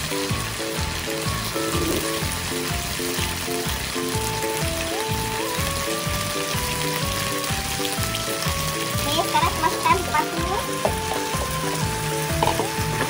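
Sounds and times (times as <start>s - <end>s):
background music with a beat: 0.0s - 9.2s, 9.8s - 13.0s
paste sizzling in a wok: 0.0s - 13.0s.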